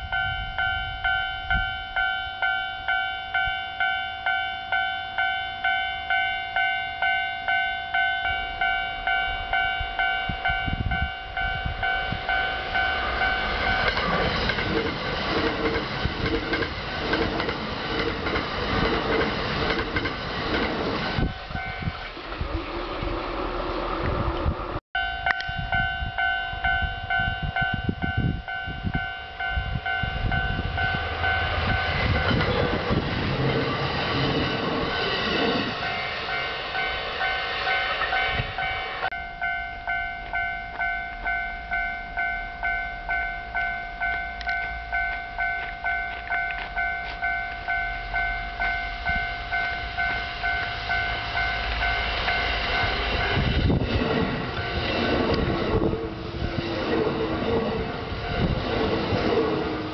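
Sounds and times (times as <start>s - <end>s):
two-tone crossing bell ringing: 0.0s - 22.1s, 25.0s - 59.4s
train rumbling past: 0.0s - 59.9s.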